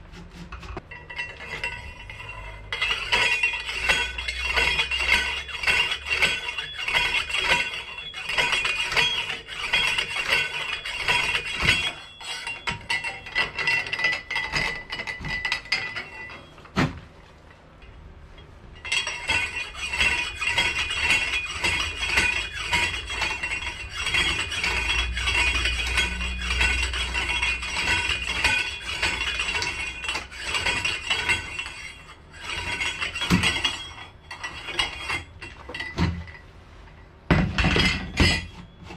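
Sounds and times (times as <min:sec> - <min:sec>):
pump drill metallic clinking: 0:00.4 - 0:16.7, 0:18.4 - 0:36.5, 0:37.3 - 0:38.9.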